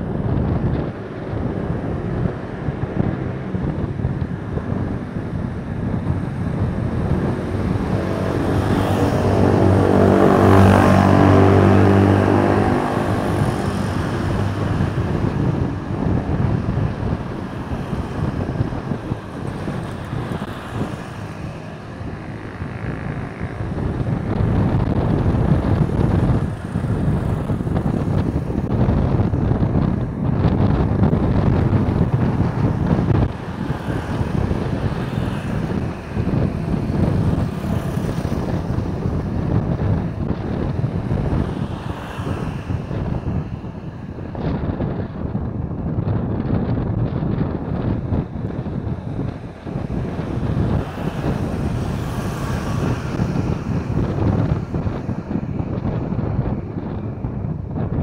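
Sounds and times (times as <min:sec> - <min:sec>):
road traffic: 0:00.0 - 0:58.0
wind noise on microphone: 0:00.0 - 0:58.0
vehicle engine passing close: 0:00.1 - 0:58.0.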